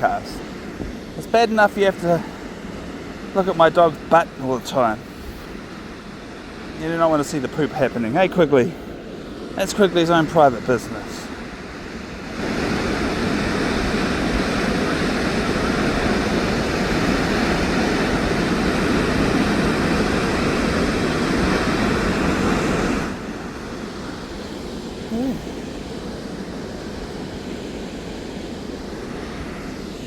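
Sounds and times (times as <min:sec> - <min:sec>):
white water rushing: 0:00.0 - 0:30.0.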